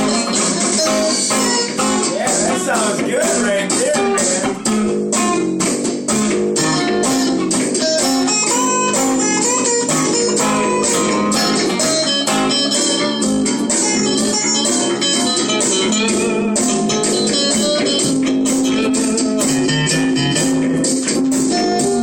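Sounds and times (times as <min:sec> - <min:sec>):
blues-rock guitars jamming: 0:00.0 - 0:22.0.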